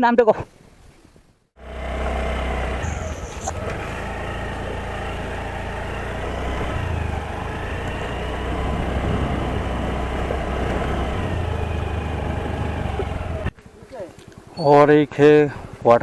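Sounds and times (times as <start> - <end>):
scooter engine running: 1.6 - 16.0.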